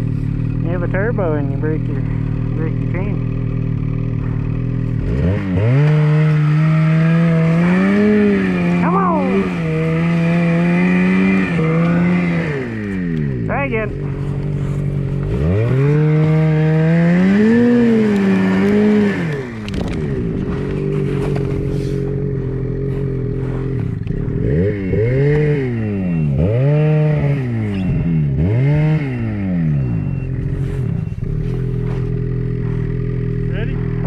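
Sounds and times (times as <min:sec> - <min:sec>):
snowmobile engine revving: 0:00.0 - 0:34.0.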